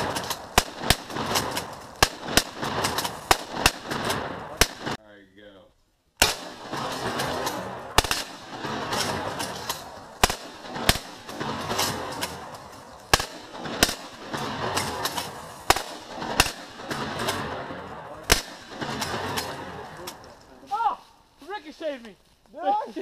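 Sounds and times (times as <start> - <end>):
shotgun shots: 0.0 - 5.0, 6.2 - 20.2.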